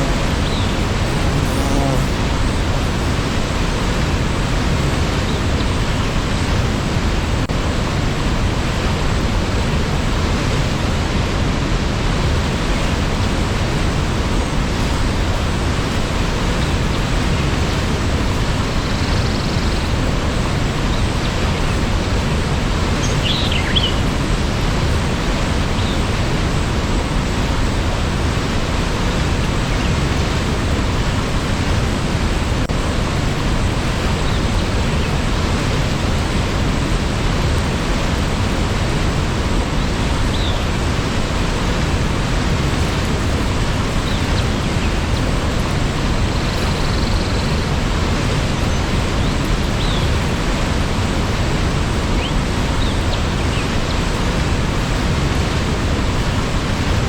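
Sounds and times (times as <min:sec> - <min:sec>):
waterfall rushing: 0:00.0 - 0:18.8, 0:19.9 - 0:57.0.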